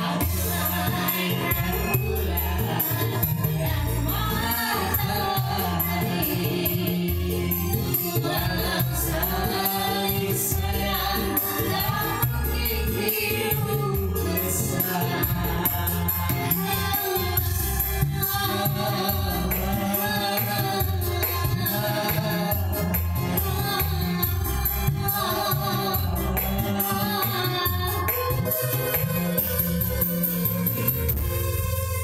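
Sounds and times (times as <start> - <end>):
woman singing into a microphone: 0.0 - 29.7
steady beat and bass line: 0.0 - 32.0.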